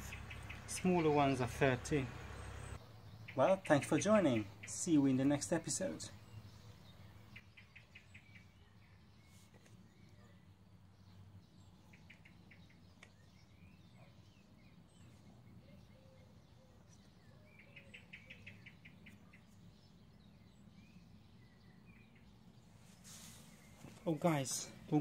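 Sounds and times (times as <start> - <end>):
faint birdsong: 0.0 - 25.0.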